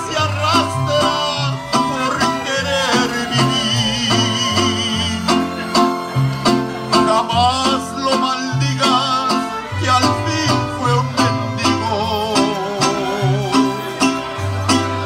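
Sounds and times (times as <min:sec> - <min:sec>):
bass line: 0:00.0 - 0:15.0
bowed violin: 0:00.0 - 0:15.0
strummed guitars: 0:00.0 - 0:15.0.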